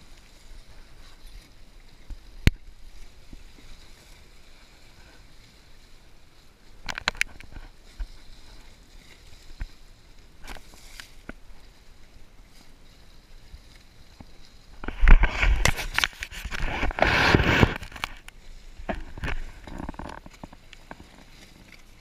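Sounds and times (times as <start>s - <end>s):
water sloshing against boat: 0.0s - 22.0s.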